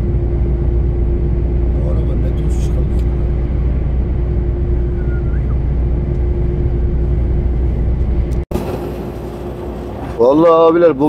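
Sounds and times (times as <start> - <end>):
steady hum: 0.0 - 11.0
truck engine and road rumble: 0.0 - 11.0.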